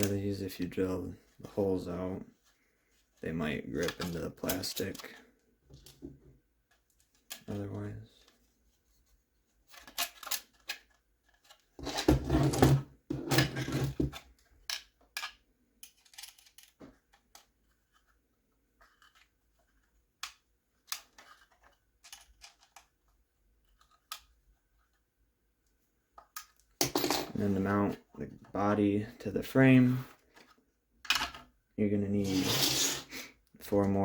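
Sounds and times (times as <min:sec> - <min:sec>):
rubbing and handling noise: 0:00.0 - 0:34.0.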